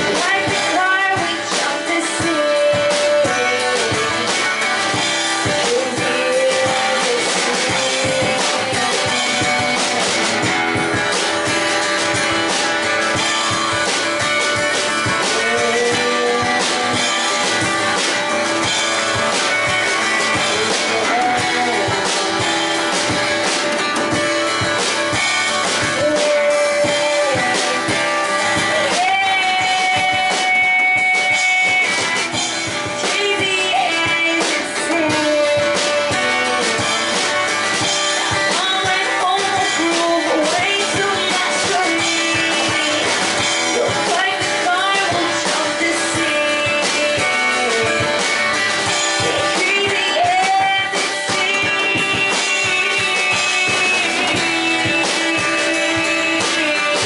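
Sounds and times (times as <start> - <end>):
woman singing into microphone: 0.0 - 18.8, 19.4 - 23.4, 24.2 - 57.0
drums: 0.0 - 57.0
strummed acoustic guitar: 0.0 - 57.0.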